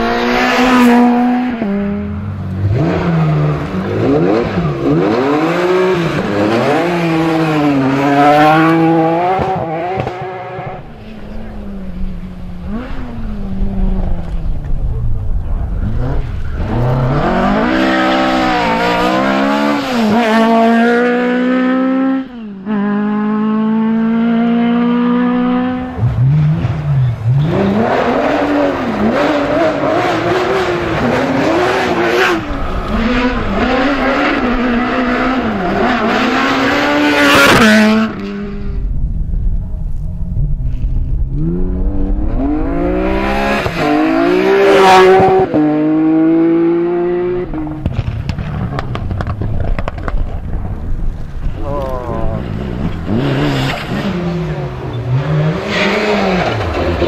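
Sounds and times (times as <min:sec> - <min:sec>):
rally car engines at full throttle: 0:00.0 - 0:57.0.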